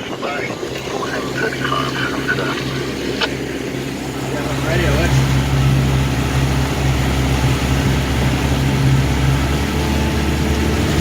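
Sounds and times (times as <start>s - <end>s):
outboard motors running: 0.0s - 11.0s
water noise: 0.0s - 11.0s.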